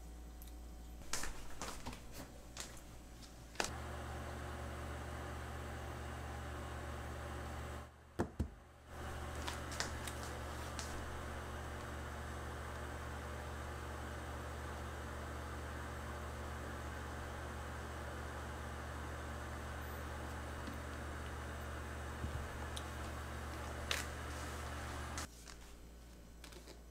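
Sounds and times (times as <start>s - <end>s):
low electrical hum: 0.0s - 26.9s.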